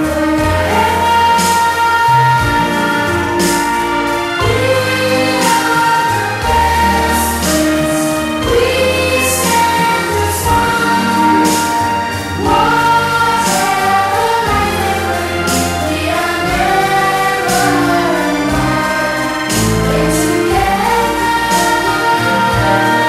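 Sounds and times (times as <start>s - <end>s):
choir singing held notes: 0.0s - 23.0s
instrumental accompaniment: 0.0s - 23.0s
moving bass line: 0.0s - 23.0s.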